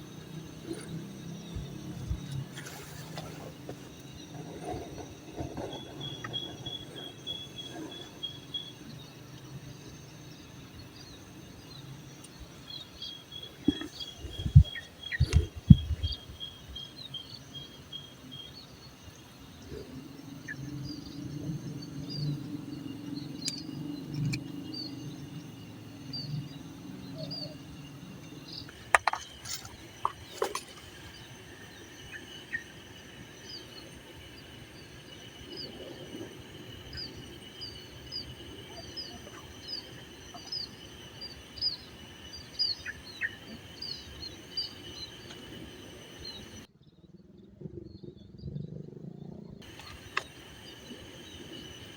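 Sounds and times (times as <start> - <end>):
birds chirping: 0.0 - 46.7, 49.6 - 51.9
steady insect trill: 0.0 - 46.9, 49.6 - 51.9.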